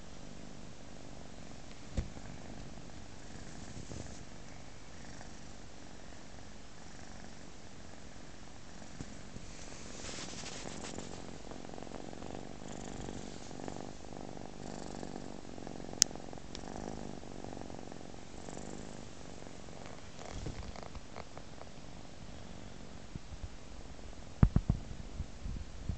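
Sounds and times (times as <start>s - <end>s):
kitten purring: 0.0s - 23.4s.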